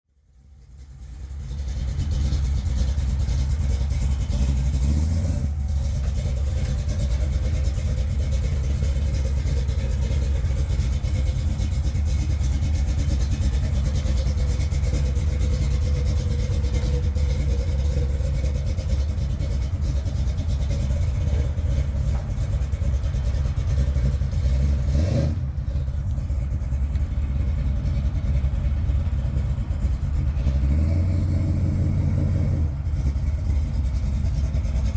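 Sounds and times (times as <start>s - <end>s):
truck engine running: 0.1s - 34.9s.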